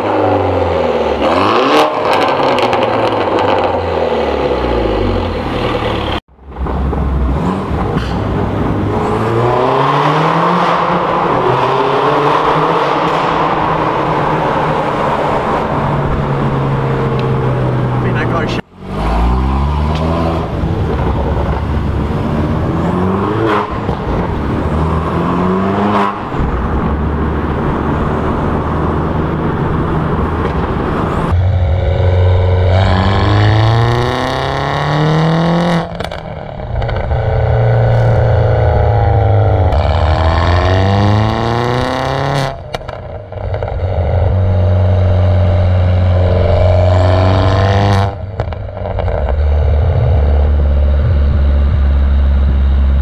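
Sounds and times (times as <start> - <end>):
car engine accelerating through gears: 0.0 - 53.0
exhaust cracks: 1.2 - 11.8, 12.4 - 53.0.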